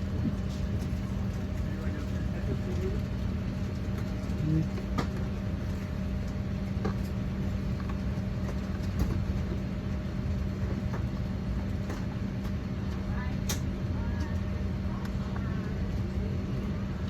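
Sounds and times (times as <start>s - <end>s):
cabin air conditioning drone: 0.0s - 17.0s.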